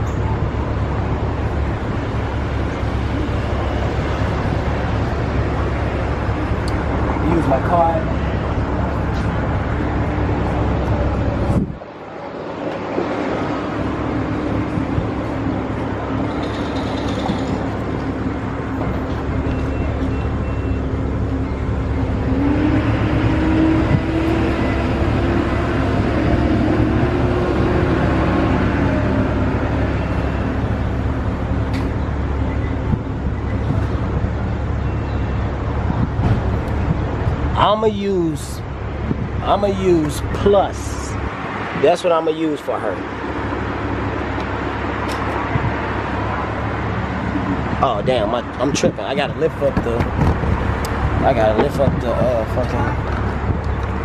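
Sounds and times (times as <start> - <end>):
low engine rumble: 0.0 - 54.0
traffic noise: 0.0 - 54.0.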